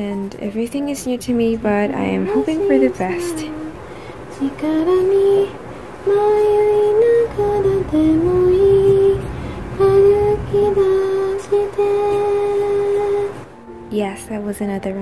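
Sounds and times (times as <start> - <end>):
woman singing slow melody: 0.0 - 14.0.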